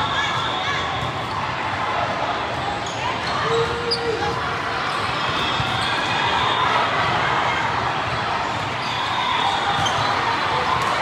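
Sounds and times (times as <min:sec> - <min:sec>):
many voices chattering: 0:00.0 - 0:11.0.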